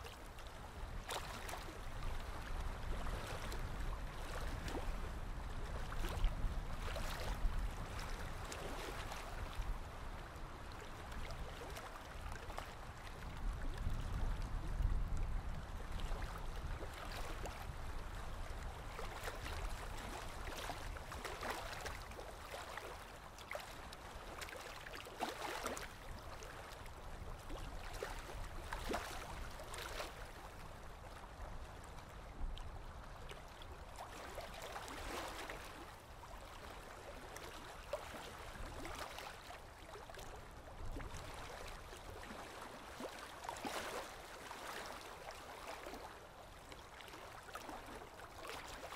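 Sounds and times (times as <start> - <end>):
river waves lapping on bank: 0.0 - 48.9.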